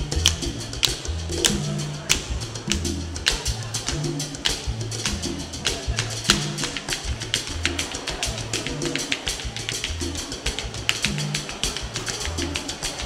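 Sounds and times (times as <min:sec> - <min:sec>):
latin jazz mambo music: 0:00.0 - 0:13.0
low bass guitar notes: 0:00.0 - 0:13.0.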